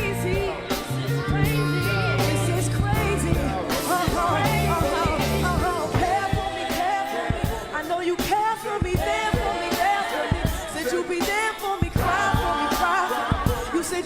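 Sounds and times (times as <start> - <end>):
pop hip-hop song with vocals: 0.0 - 14.0.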